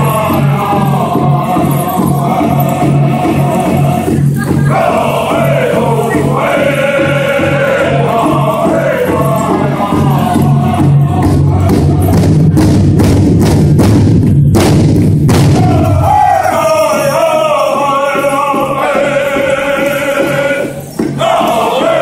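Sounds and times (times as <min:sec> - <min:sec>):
men singing in unison: 0:00.0 - 0:12.4, 0:15.5 - 0:22.0
higher voices singing: 0:00.0 - 0:12.6, 0:15.5 - 0:22.0
big drum beating: 0:00.0 - 0:22.0.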